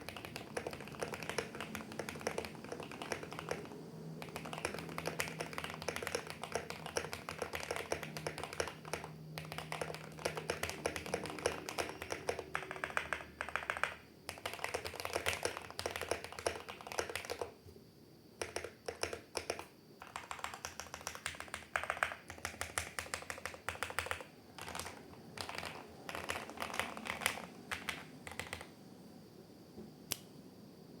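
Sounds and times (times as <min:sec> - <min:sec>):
mechanical keyboard typing: 0:00.0 - 0:17.6, 0:18.4 - 0:28.7.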